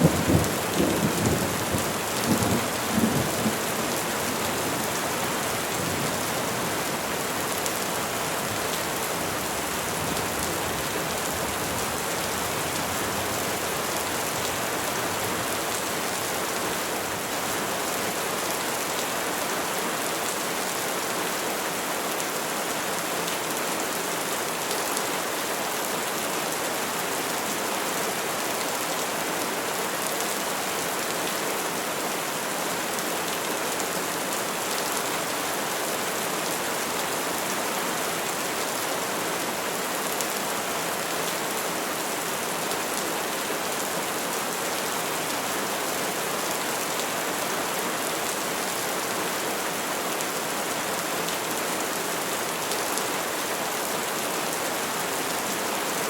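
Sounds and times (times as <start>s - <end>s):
rain falling on trees: 0.0s - 56.0s.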